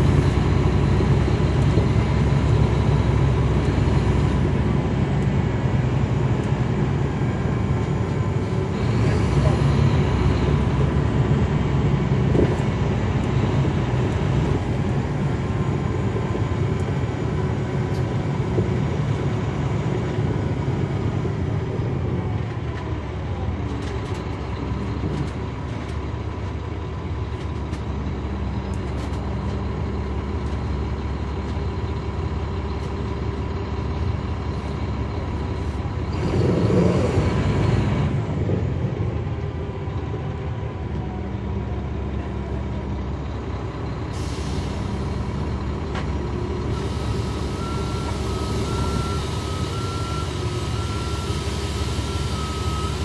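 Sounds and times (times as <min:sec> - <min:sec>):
bus engine rumble with whine: 0:00.0 - 0:53.0.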